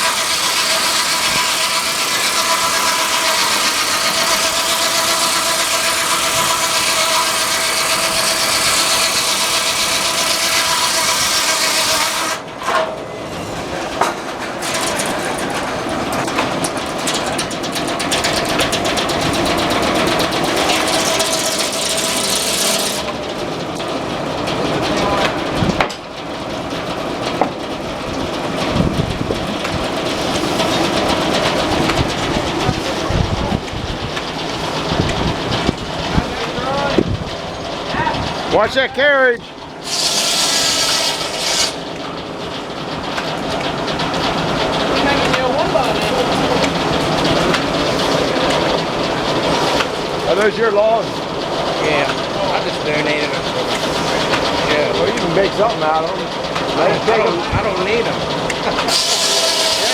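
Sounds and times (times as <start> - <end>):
circular saw cutting log: 0.0 - 59.9
sawmill machinery running: 0.0 - 59.9.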